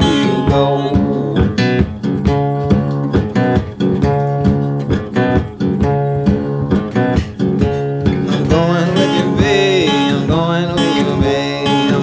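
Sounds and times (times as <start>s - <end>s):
country music with strummed guitars: 0.0s - 12.0s.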